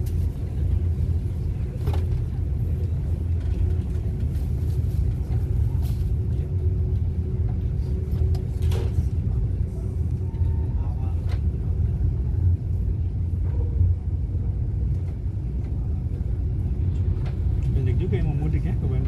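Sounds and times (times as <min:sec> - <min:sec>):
diesel train low rumble: 0:00.0 - 0:19.0.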